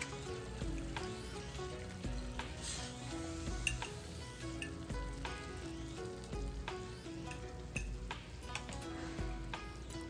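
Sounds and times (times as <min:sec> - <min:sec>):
background music with stepping melody: 0:00.0 - 0:10.0
food sizzling in a pan: 0:00.0 - 0:10.0.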